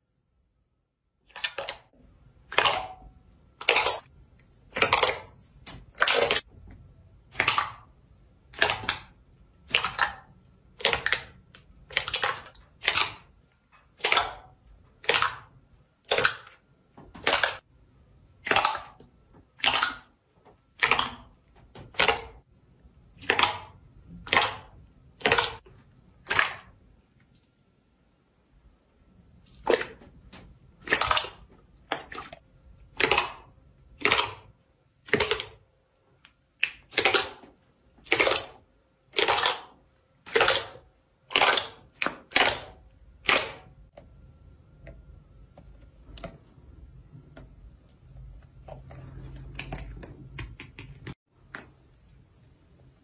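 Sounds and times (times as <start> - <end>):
slime squelching: 1.2 - 27.6, 29.0 - 53.0.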